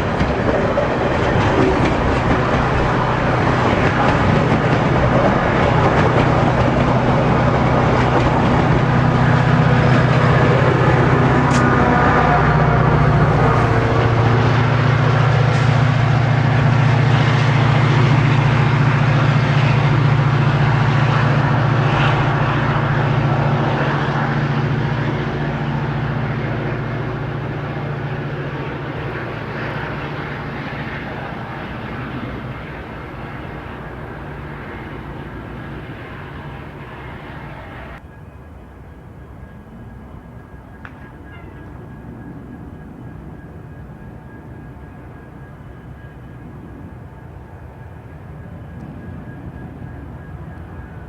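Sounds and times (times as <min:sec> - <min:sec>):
diesel locomotive passing: 0:00.0 - 0:51.0.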